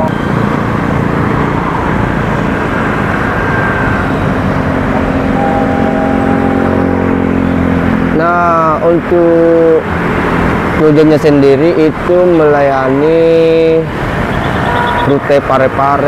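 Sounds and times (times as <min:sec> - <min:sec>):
engine hum: 0:00.0 - 0:15.9
road traffic rumble: 0:00.0 - 0:16.0.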